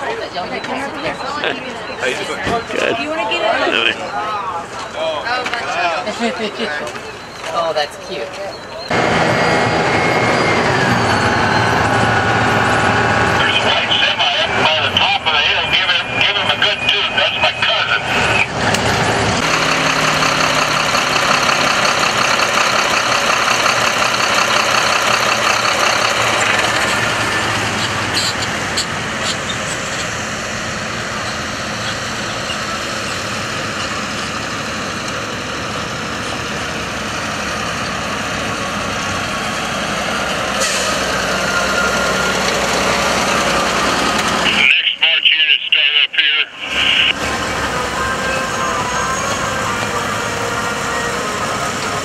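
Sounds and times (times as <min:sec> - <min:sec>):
old truck engines running: 0:00.0 - 0:52.0
truck engine and road noise: 0:00.0 - 0:52.0.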